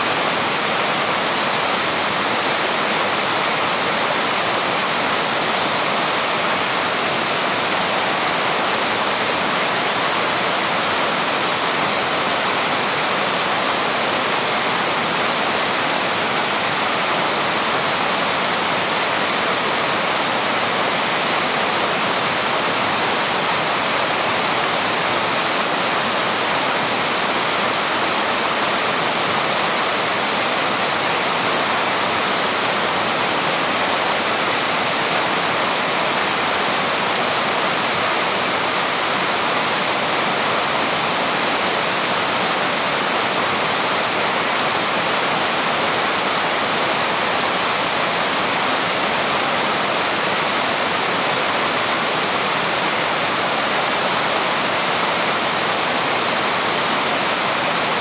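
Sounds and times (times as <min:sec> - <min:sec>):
small waterfall over rocks: 0:00.0 - 0:58.0.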